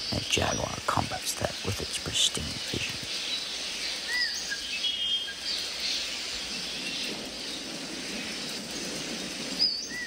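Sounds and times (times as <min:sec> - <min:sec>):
steady rainforest hiss: 0:00.0 - 0:10.0.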